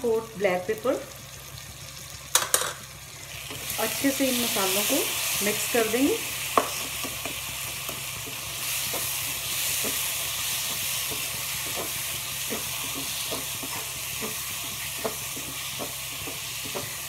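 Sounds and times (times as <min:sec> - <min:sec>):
frying sizzle: 0:00.0 - 0:17.0.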